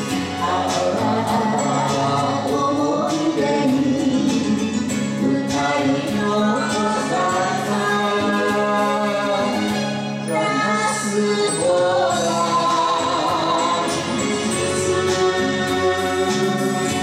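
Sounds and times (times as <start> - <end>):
instrumental accompaniment: 0.0 - 17.0
woman singing: 0.1 - 17.0
man singing: 0.4 - 17.0.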